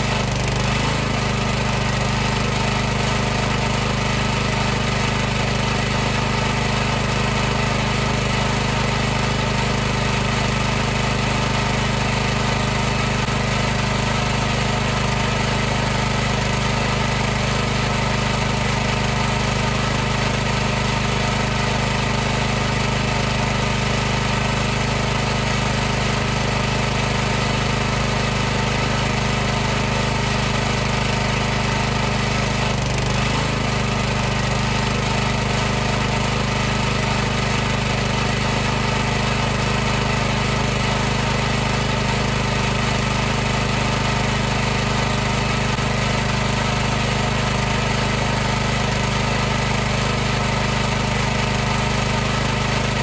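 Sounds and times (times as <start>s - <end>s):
pressure washer humming: 0.0s - 53.0s.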